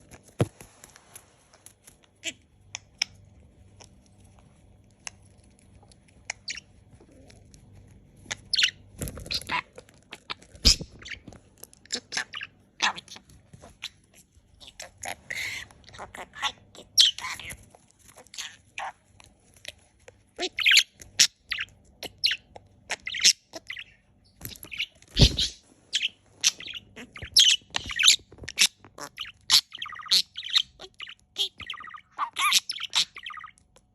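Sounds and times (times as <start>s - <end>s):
parakeet chirping and squawking: 2.0s - 4.4s, 5.0s - 7.4s, 8.1s - 33.8s.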